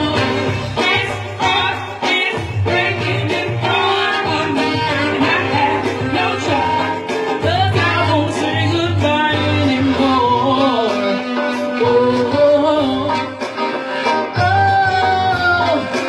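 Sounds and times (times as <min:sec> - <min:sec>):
electric guitar: 0:00.0 - 0:16.0
woman singing: 0:00.0 - 0:16.0.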